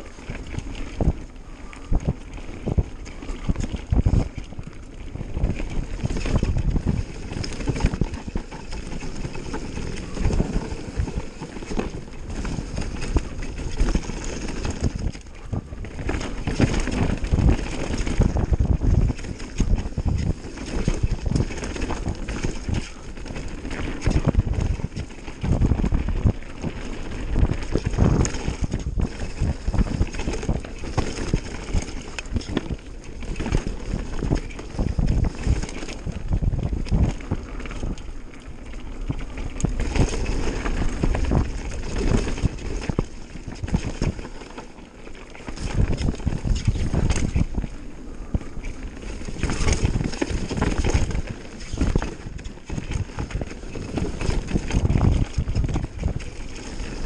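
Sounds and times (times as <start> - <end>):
bike rattling and knocking: 0.0 - 57.0
wind buffeting microphone: 0.0 - 57.0.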